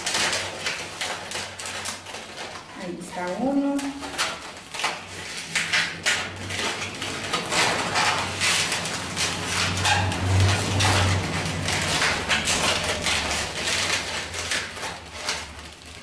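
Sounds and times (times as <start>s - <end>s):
balloons rubbing and squeaking: 0.0s - 16.0s.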